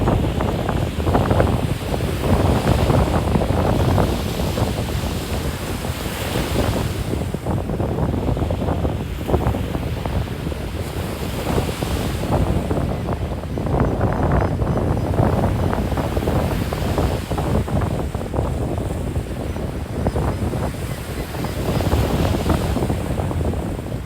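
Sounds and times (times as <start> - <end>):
ocean surf on sandy beach: 0.0 - 24.0
wind buffeting microphone: 0.0 - 24.0.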